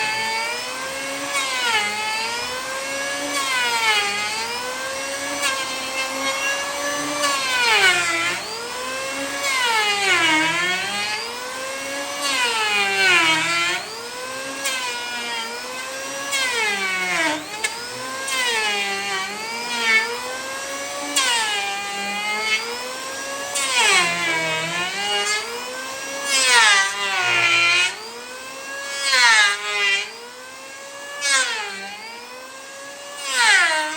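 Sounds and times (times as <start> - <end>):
power tool motor whining: 0.0 - 33.9.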